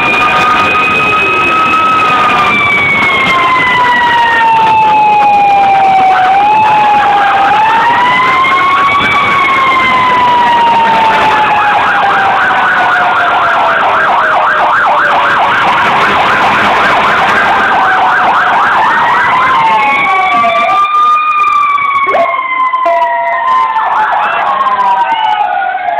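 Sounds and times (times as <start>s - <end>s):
fire engine sirens wailing: 0.0s - 25.9s.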